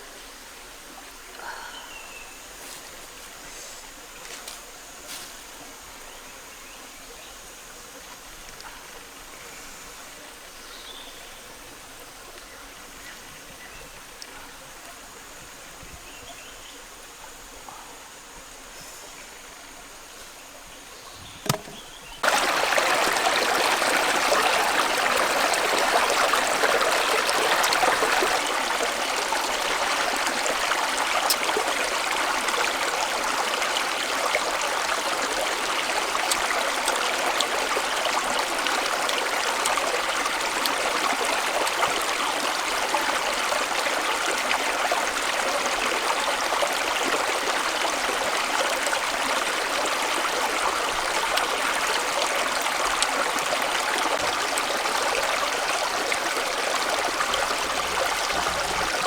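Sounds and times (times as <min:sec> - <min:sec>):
rush of running water: 0:00.0 - 0:59.0.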